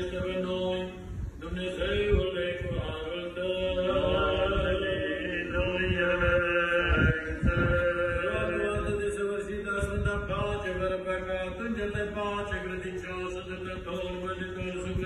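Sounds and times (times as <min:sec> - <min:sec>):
voices singing liturgical chant: 0:00.0 - 0:15.0.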